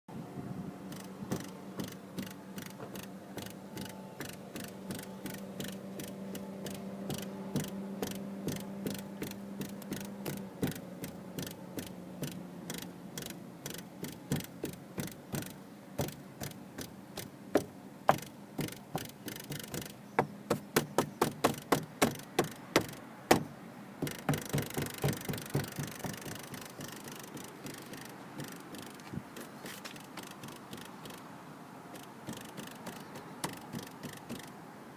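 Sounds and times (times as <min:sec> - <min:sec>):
buzzing rattle: 0:00.9 - 0:31.2, 0:31.9 - 0:34.6
taps on car door frame: 0:01.0 - 0:31.2, 0:32.0 - 0:34.5.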